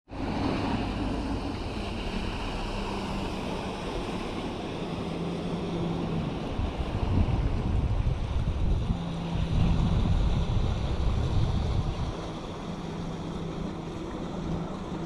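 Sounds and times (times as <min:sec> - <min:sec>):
motorboat engine drone: 0:00.1 - 0:15.0
wind buffeting microphone: 0:00.1 - 0:15.0
waves washing against rocks: 0:00.2 - 0:15.0.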